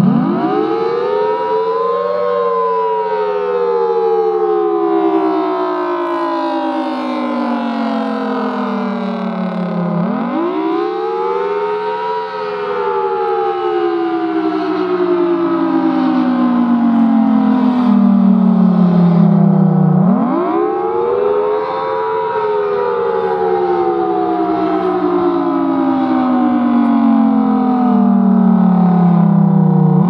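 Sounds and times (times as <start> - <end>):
storm siren wailing: 0.0 - 30.0.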